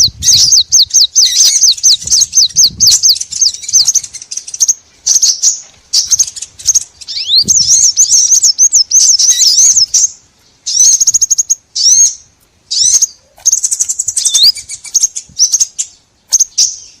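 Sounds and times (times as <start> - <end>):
songbird chirps and trills: 0.0 - 17.0.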